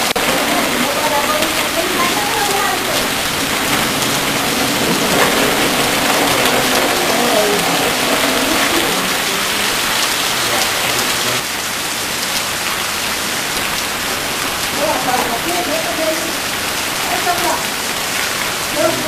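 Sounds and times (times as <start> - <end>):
heavy rain on a street: 0.0 - 19.0.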